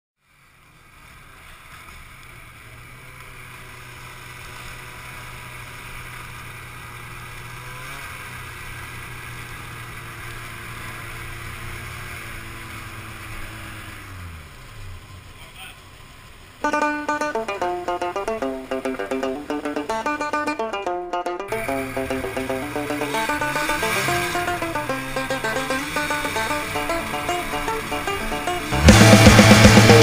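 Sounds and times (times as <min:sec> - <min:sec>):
snowmobile engine idling: 0:00.2 - 0:30.0.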